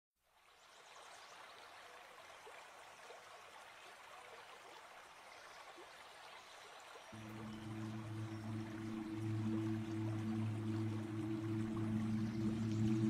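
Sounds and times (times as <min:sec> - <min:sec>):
faint running water: 0:00.2 - 0:13.0.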